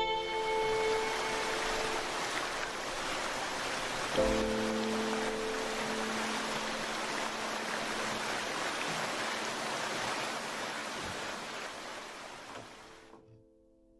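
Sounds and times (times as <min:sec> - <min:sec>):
stream rushing over rocks: 0:00.0 - 0:13.1.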